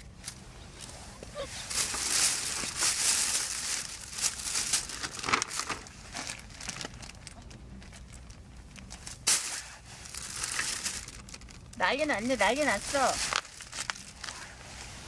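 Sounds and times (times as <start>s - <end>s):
crinkly toy rustling: 0.8s - 15.0s.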